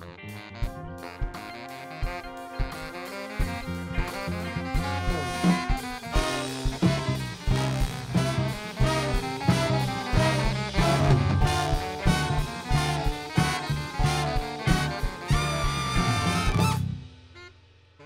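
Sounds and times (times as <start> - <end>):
jazz-funk horn band playing: 0.0 - 17.5.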